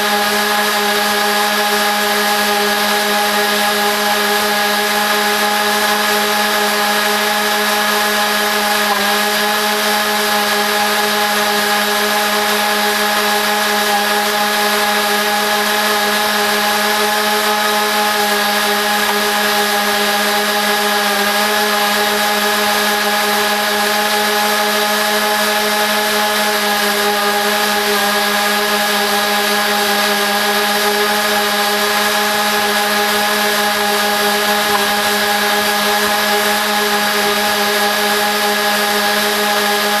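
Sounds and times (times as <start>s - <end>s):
sped-up lawn mower engine drone: 0.0s - 40.0s.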